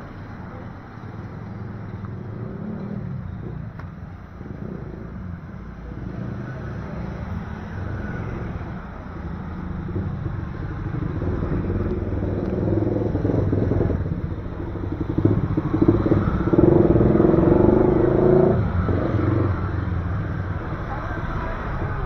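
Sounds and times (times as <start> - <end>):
motorcycle traffic passing: 0.0 - 22.0
motorcycle with sidecar passing close: 0.0 - 22.0.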